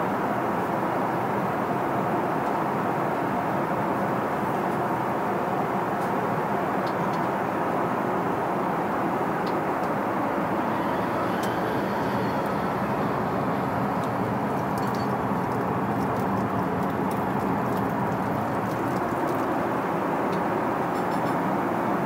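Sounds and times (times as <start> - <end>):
airliner cabin drone: 0.1 - 22.0.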